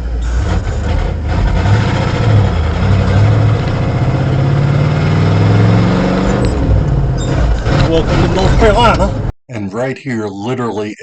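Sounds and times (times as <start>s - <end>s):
truck engine and road noise: 0.0s - 9.4s.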